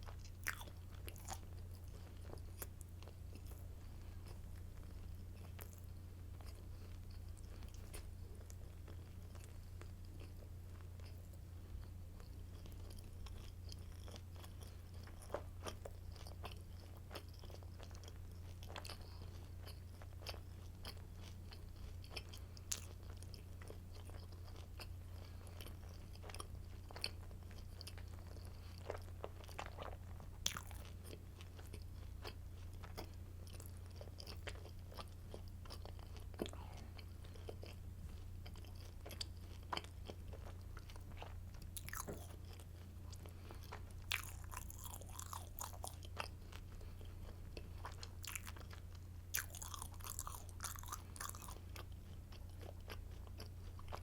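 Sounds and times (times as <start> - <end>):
chewing and crunching bread sticks: 0.0 - 54.0
steady low hum: 0.0 - 54.0.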